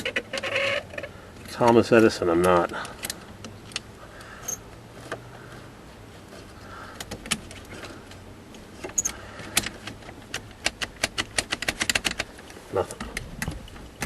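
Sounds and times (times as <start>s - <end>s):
small metallic clicks and rattles: 0.0s - 5.2s, 7.0s - 14.0s.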